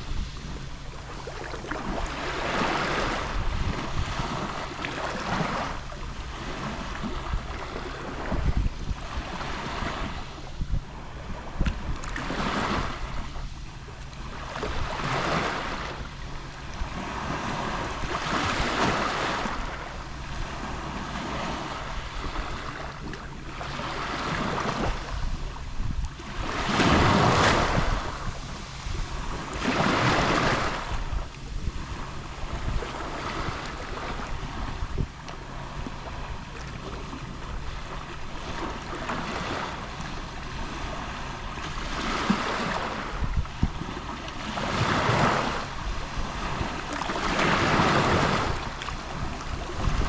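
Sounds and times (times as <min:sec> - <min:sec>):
small waves lapping on shore: 0:00.0 - 0:50.0.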